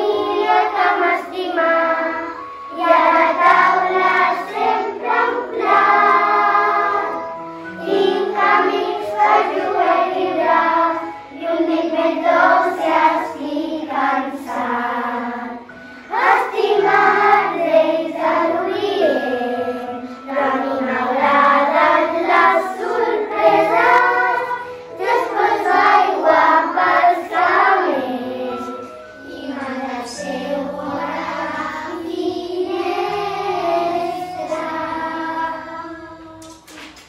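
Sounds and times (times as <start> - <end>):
children singing a carol: 0.0 - 36.6.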